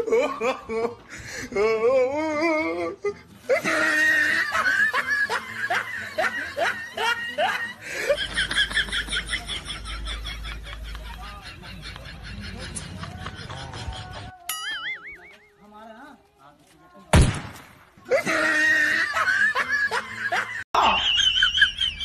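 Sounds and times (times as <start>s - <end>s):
person laughing: 0.0s - 14.4s, 18.1s - 22.0s.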